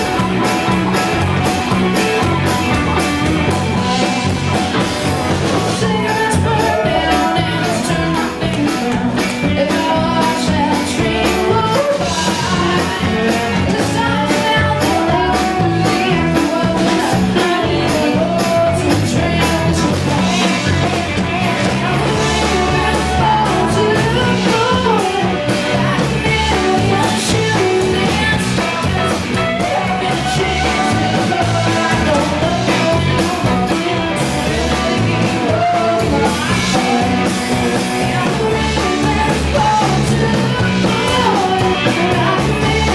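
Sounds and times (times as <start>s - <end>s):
drums: 0.0s - 42.9s
electric guitars: 0.0s - 42.9s
woman singing lead: 0.0s - 42.9s.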